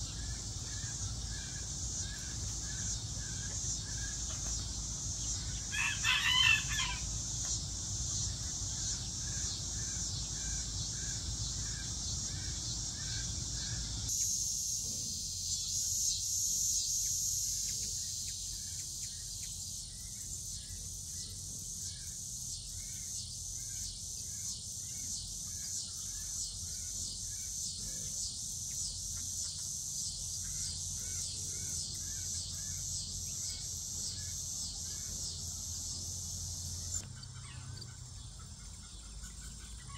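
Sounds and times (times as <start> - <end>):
insects chirping: 0.0 - 39.9
lower insect chirp: 0.0 - 39.9.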